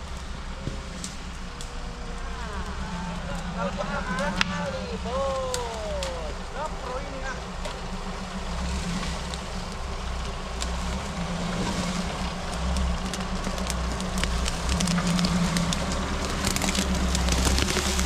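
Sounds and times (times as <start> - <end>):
crackles and clicks: 0.0 - 18.0
off-road engine at low revs: 0.0 - 18.0.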